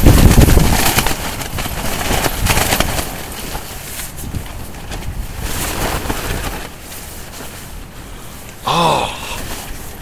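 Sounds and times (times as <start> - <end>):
wind gusting against microphone: 0.0 - 8.6
tent fabric flapping: 0.0 - 10.0.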